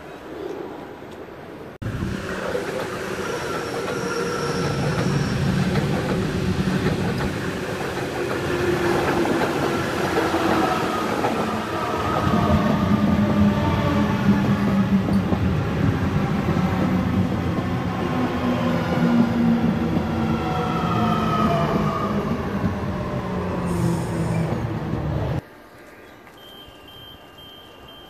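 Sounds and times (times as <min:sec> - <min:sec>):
train wheels rumbling on rails: 0:01.8 - 0:25.4.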